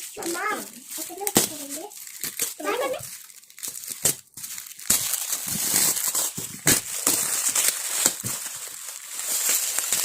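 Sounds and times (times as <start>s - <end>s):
gift packaging rustling: 0.0s - 10.0s.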